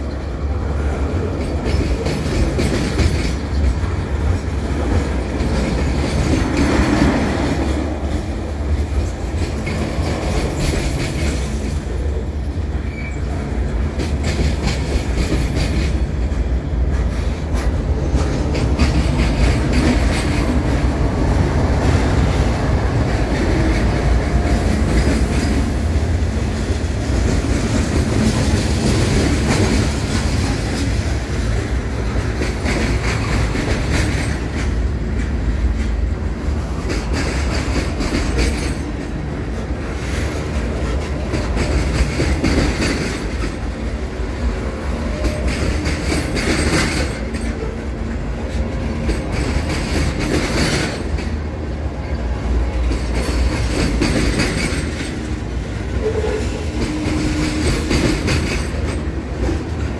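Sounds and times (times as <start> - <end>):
freight train rumbling past: 0.0 - 59.9
steel wheels clattering over rail joints: 0.0 - 59.9.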